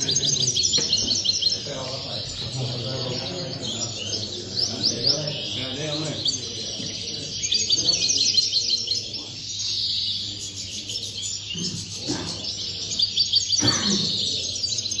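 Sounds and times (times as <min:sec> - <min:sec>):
goldfinches twittering: 0:00.0 - 0:15.0.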